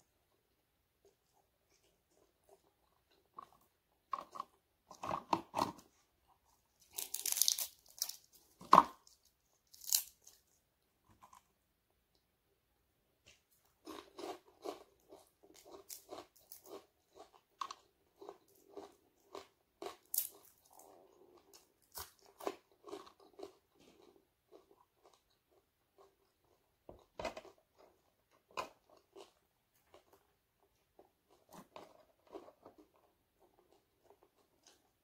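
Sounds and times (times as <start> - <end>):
crunching and chewing: 1.0 - 11.6, 13.3 - 35.0.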